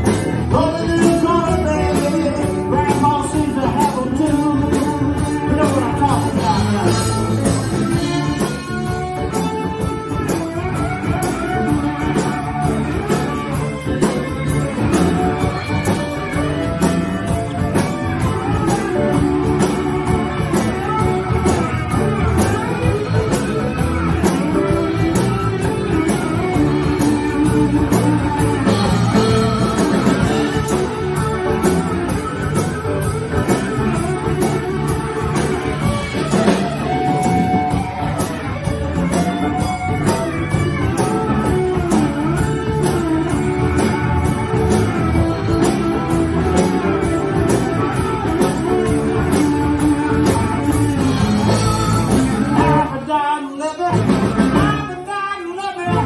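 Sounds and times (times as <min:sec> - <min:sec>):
electric guitar lead: 0:00.0 - 0:56.0
live blues-rock band: 0:00.0 - 0:56.0.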